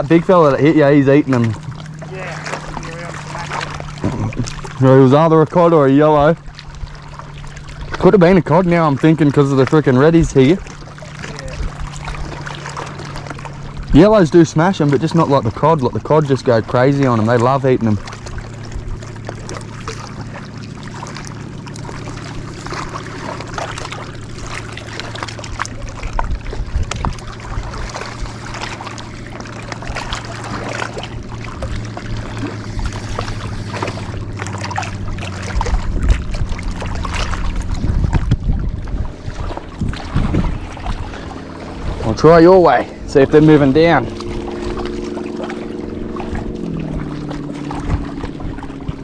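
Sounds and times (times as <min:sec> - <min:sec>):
low rumbling: 0:00.0 - 0:49.0
motor humming: 0:00.0 - 0:49.0.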